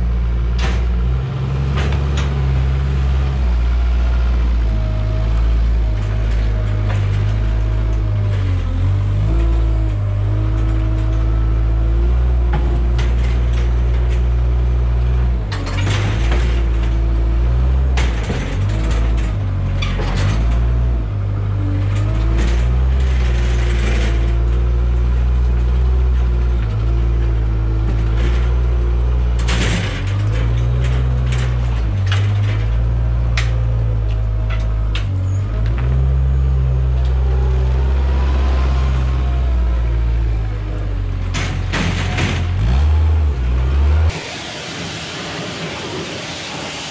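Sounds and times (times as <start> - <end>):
diesel engine running: 0.0 - 46.9
metal clanks and knocks: 0.3 - 37.5, 39.2 - 44.2
hydraulic whine: 0.5 - 46.9.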